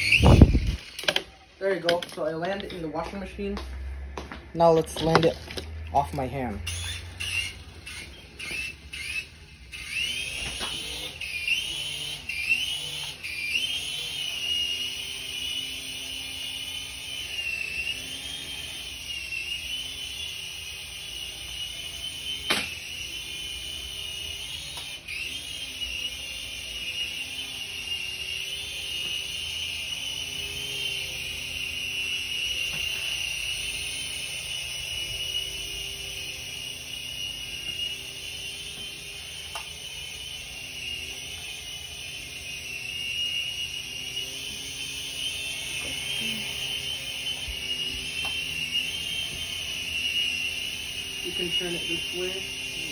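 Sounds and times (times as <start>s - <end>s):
toy helicopter motor whine: 0.0s - 52.9s.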